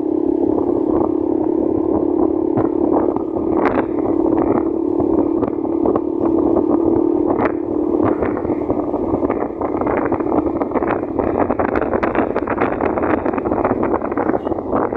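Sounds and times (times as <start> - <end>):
motorcycle engine running: 0.0 - 14.9
wind noise on microphone: 0.0 - 14.9.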